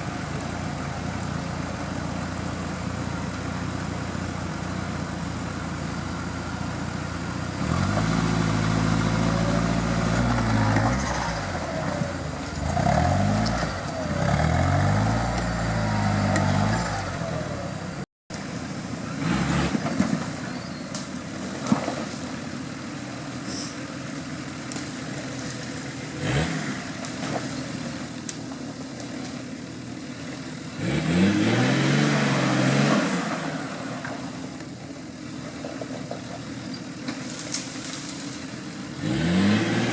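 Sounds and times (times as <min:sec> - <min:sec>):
off-road vehicle engine revving: 0:00.0 - 0:18.1, 0:18.9 - 0:20.7, 0:24.5 - 0:28.1, 0:30.0 - 0:36.0, 0:36.6 - 0:39.9.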